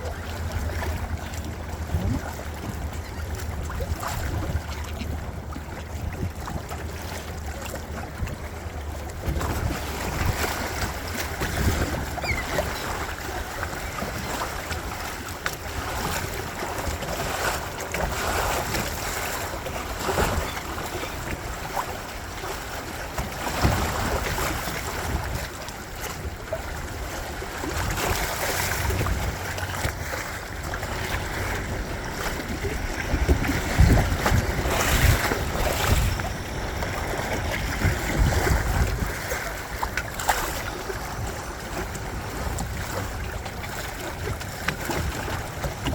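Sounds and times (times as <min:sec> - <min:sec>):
water splashing along hull: 0:00.0 - 0:45.9
wind buffeting microphone: 0:00.0 - 0:45.9.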